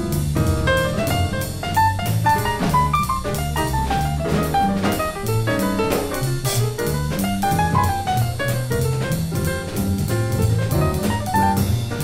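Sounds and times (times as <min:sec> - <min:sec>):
jazz music: 0:00.0 - 0:12.0.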